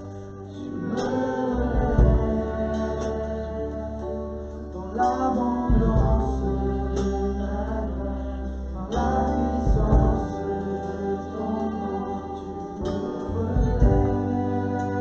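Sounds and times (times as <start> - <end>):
voices singing slow worship song: 0.0 - 15.0.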